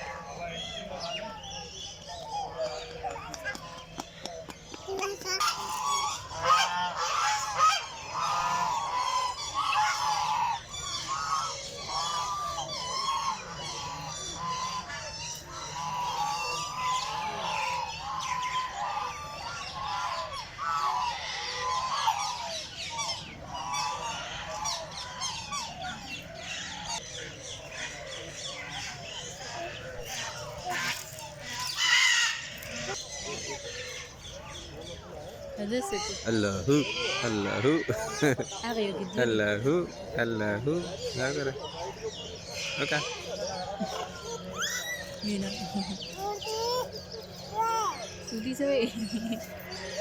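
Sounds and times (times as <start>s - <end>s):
flock of birds calling: 0.0s - 50.0s.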